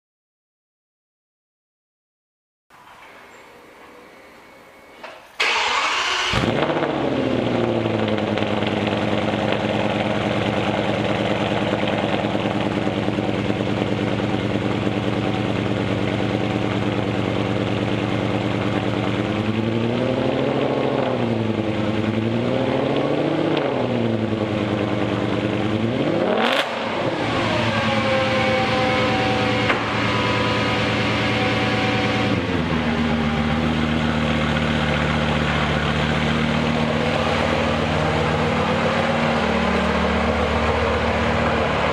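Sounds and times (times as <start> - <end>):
car engine idling and revving: 5.4 - 41.9.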